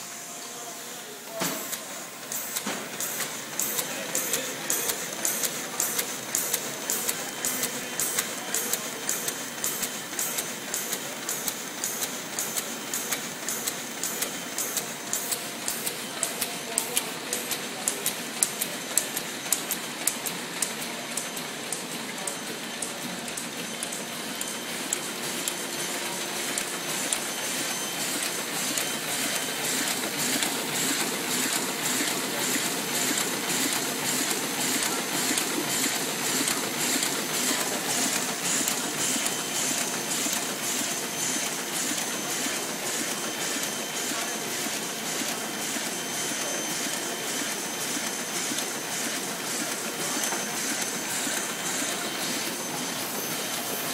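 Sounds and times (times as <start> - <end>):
printing press clattering: 1.5 - 53.9.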